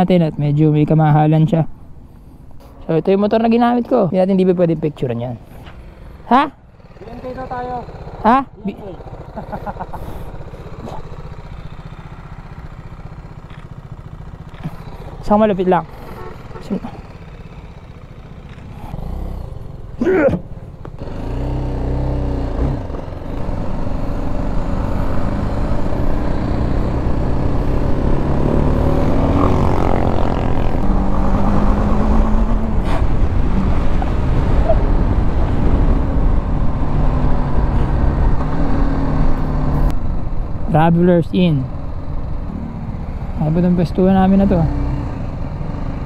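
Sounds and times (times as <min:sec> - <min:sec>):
wind and road noise: 0:00.0 - 0:46.0
motorcycle engine accelerating: 0:05.6 - 0:46.0.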